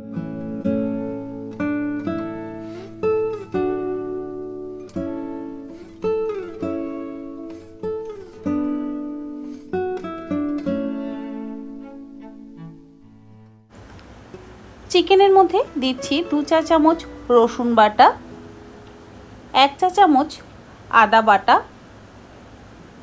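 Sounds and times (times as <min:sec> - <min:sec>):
acoustic guitar picking melody: 0:00.0 - 0:20.6.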